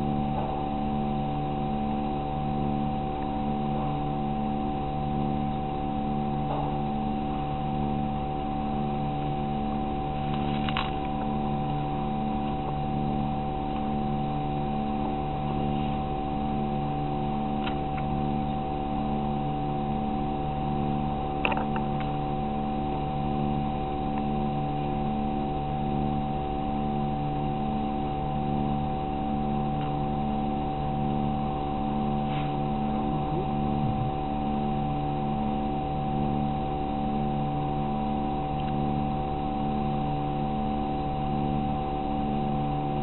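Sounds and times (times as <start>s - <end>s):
pulsing mechanical hum: 0.0s - 43.0s.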